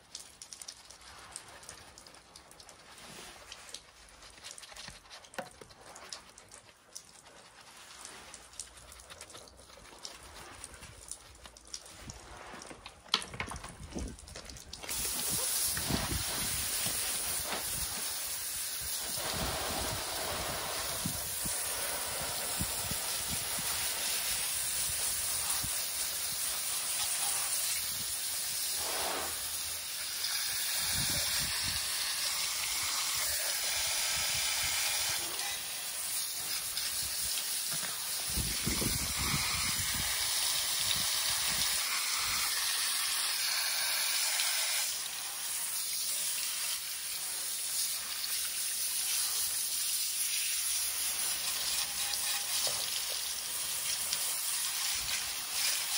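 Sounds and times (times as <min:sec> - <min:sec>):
hose water spraying on wheel: 0:00.0 - 0:55.9.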